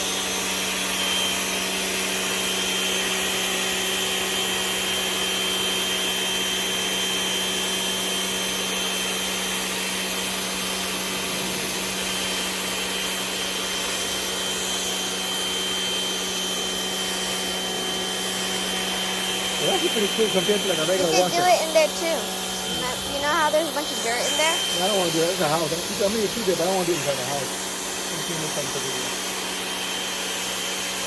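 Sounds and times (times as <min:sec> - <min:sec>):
pressure washer pump humming: 0:00.0 - 0:31.0.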